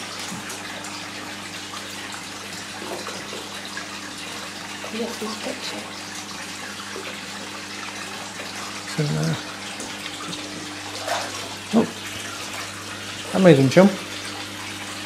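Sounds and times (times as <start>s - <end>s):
water splashing into tank: 0.0s - 15.0s.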